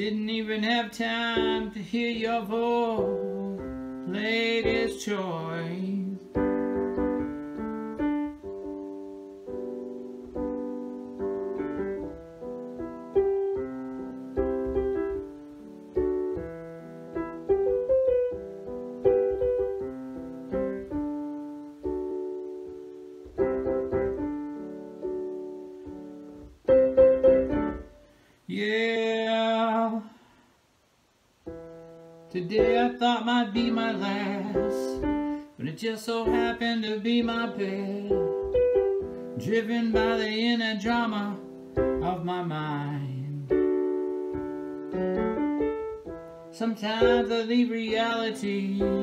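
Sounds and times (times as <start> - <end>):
piano chords and notes: 0.0 - 30.1, 31.3 - 49.0.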